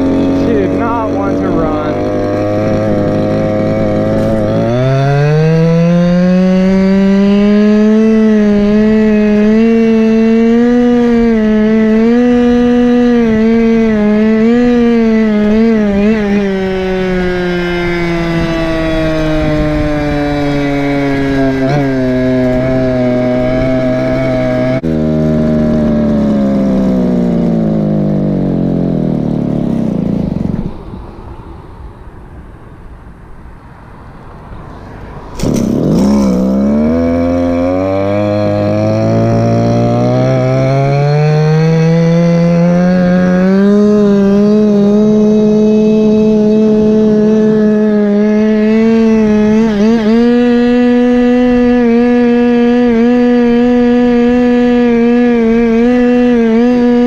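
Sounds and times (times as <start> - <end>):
small two-stroke engine revving: 0.0 - 31.4, 34.7 - 57.0.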